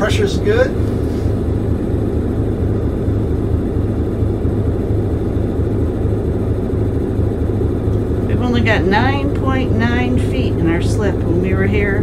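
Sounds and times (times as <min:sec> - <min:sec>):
boat engines idling: 0:00.0 - 0:12.0.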